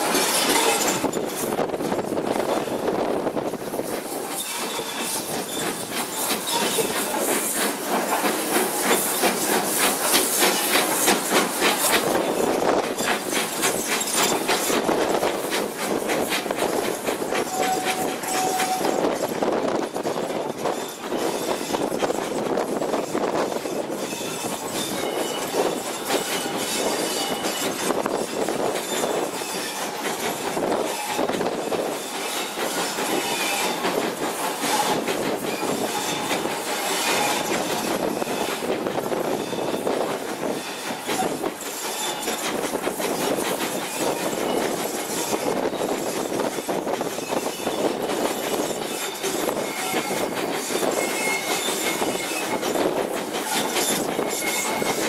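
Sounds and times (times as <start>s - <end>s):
steam hiss: 0.0s - 55.0s
steam locomotive beat: 0.0s - 55.0s
wheels clattering on track: 3.4s - 55.0s.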